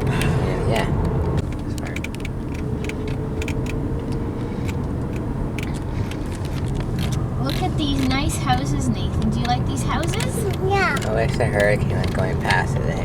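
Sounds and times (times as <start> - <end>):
engine and tyre rumble: 0.0 - 13.0
light clicks and rattles: 0.2 - 13.0.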